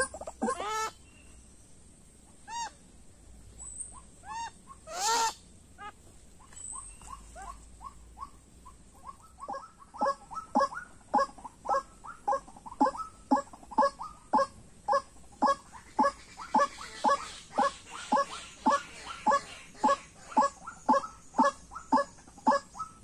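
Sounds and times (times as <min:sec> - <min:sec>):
bird croaking calls: 0:00.0 - 0:01.1, 0:02.4 - 0:02.8, 0:03.6 - 0:23.0.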